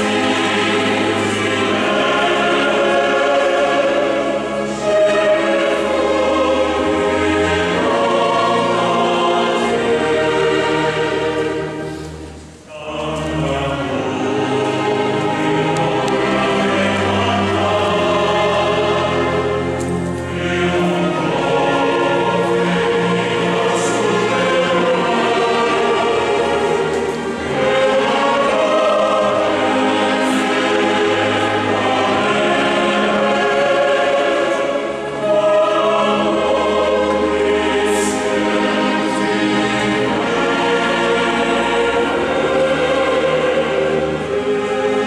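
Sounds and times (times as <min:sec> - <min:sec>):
mixed choir singing: 0:00.0 - 0:45.0
string orchestra: 0:00.0 - 0:45.0.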